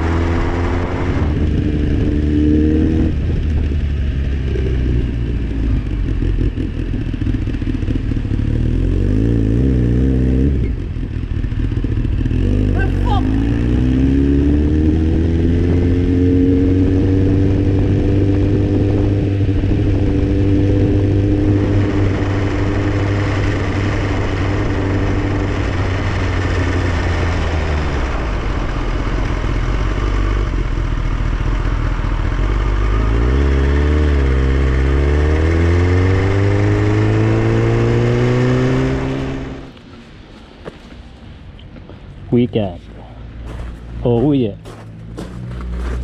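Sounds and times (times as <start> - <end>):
motorcycle engine running: 0.0 - 39.8, 43.5 - 46.0.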